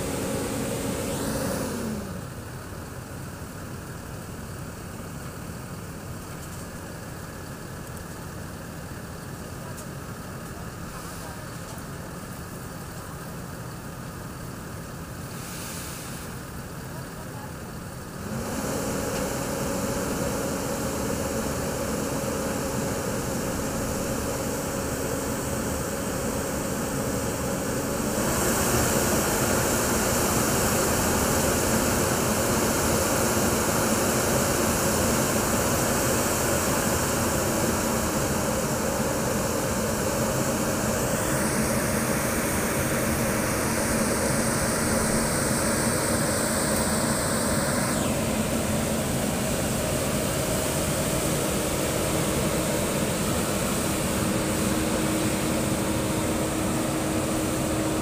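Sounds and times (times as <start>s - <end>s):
tipper truck engine running: 0.0s - 15.4s, 16.1s - 58.0s
asphalt paver diesel engine: 0.0s - 58.0s.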